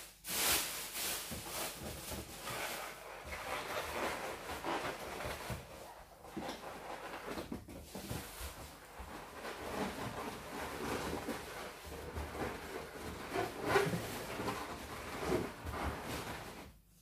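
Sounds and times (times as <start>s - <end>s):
balloons rubbing and rustling: 0.0s - 16.9s.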